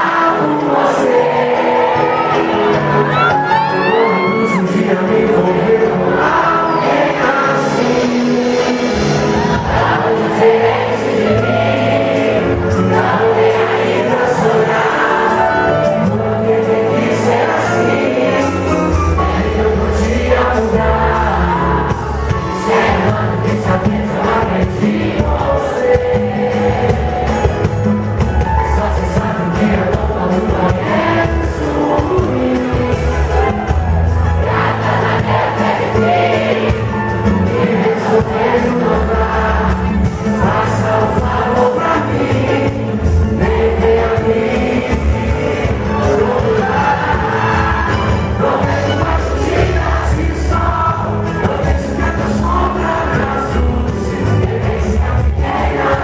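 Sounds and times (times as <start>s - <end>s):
man singing: 0.0s - 34.0s, 35.6s - 56.0s
live band playing: 0.0s - 56.0s.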